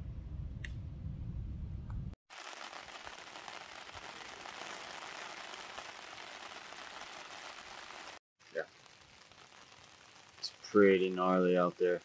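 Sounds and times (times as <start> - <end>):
heavy rain falling: 2.3 - 12.0.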